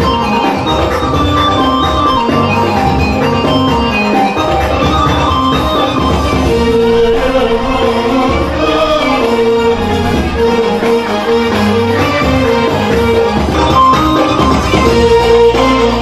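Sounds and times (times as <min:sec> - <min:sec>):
music with steady bass: 0:00.0 - 0:16.0.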